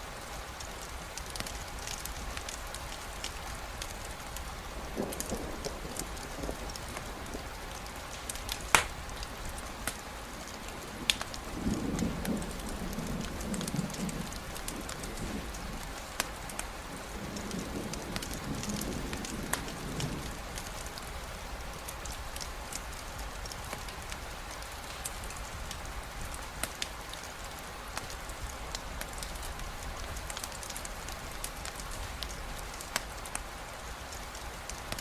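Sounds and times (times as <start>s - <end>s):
steady rainfall: 0.0s - 35.0s
campfire crackling and popping: 0.5s - 21.1s, 21.8s - 35.0s.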